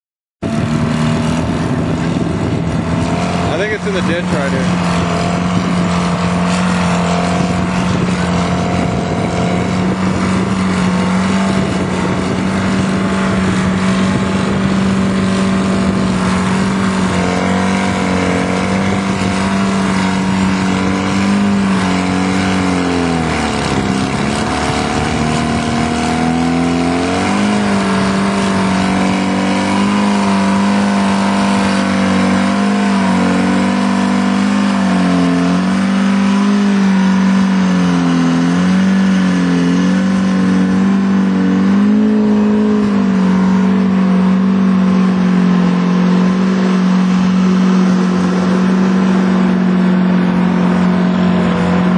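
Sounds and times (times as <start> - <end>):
heavy diesel engines under load: 0.4 - 51.9.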